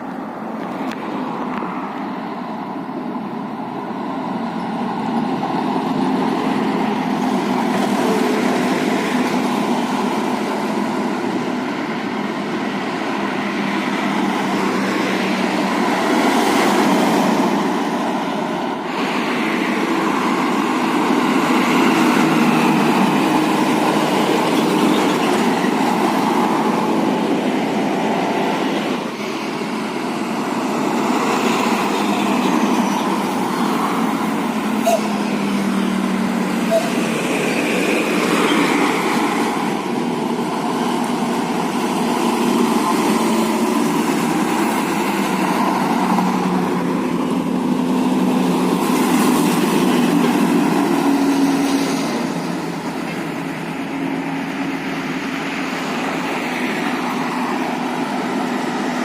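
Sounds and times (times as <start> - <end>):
heavy road traffic with trucks: 0.0 - 59.0.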